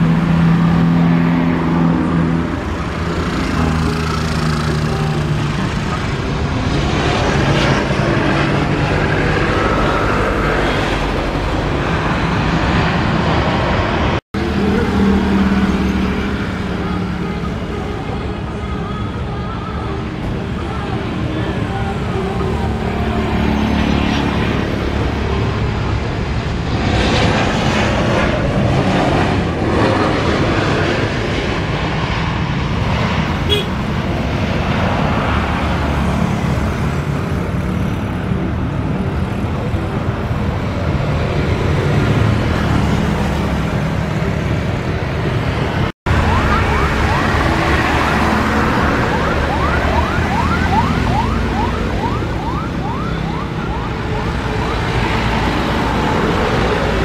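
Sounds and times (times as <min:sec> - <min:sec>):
jet engine roar: 0:00.0 - 0:18.5, 0:20.0 - 0:57.0
jet engine whine: 0:00.0 - 0:57.0.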